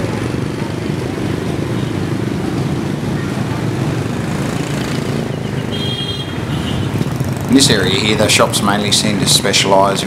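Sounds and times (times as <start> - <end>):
motorbike engines running: 0.0 - 10.0
street traffic: 0.0 - 10.0.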